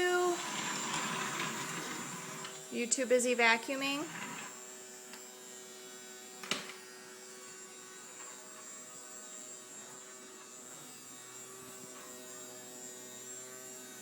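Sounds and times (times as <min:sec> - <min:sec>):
vacuum cleaner motor humming: 0:00.0 - 0:14.0.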